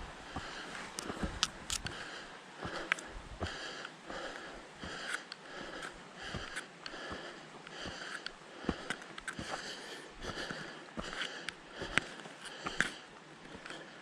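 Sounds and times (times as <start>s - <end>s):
footsteps on dirt trail: 0.0s - 13.8s
person breathing hard: 0.2s - 14.0s.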